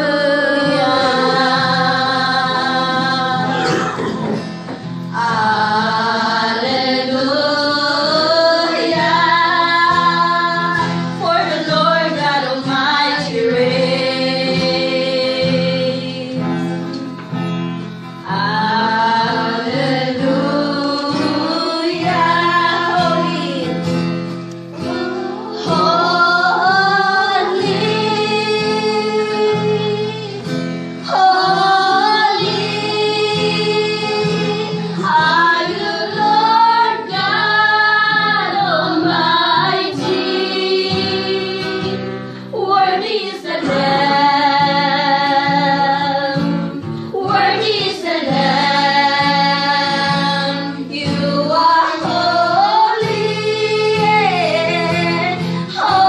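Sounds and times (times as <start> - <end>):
woman singing: 0.0 - 4.2, 5.2 - 16.5, 18.3 - 23.9, 24.8 - 30.5, 31.1 - 42.0, 42.6 - 56.0
guitar accompaniment: 0.0 - 56.0.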